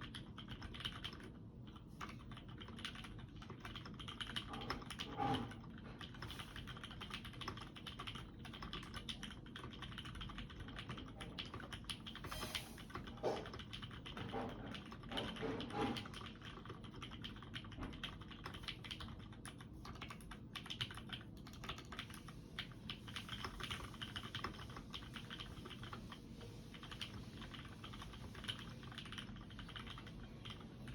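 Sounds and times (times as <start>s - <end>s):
mechanical keyboard typing: 0.0s - 26.0s, 26.7s - 30.9s.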